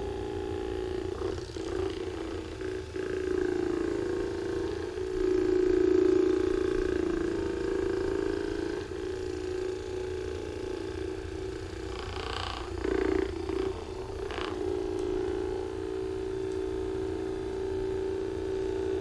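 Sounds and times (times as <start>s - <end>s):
electric massager buzzing: 0.0s - 19.0s.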